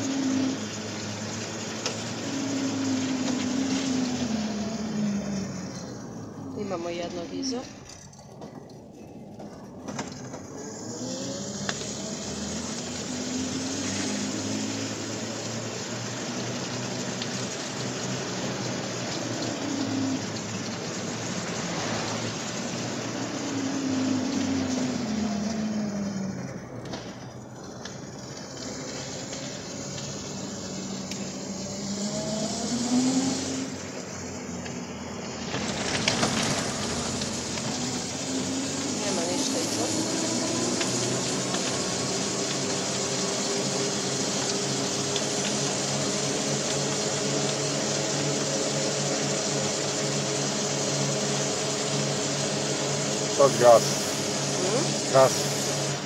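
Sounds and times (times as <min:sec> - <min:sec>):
electric motor whine: 0:00.0 - 0:08.0, 0:09.4 - 0:56.0
tyres hissing on wet road: 0:00.0 - 0:56.0.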